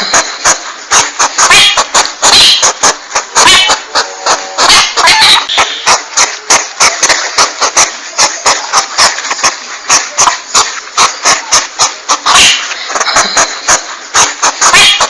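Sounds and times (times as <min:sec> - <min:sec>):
porcupine clicking: 0:00.0 - 0:15.0.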